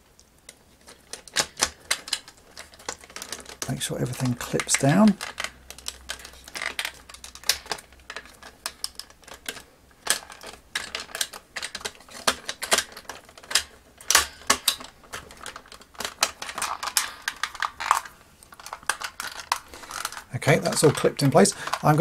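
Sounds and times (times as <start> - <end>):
plastic toy parts clicking: 0.2 - 22.0.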